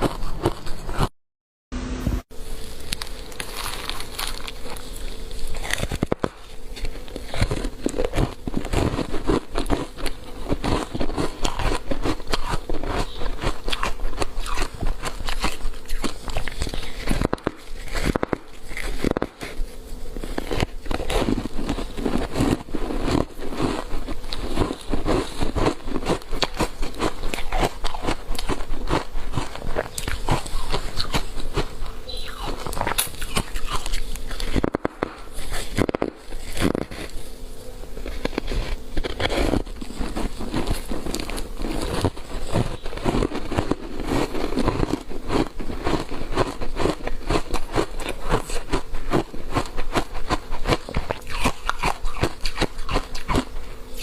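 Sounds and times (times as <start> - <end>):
chewing frozen block crunching: 0.0 - 1.1, 2.6 - 54.0.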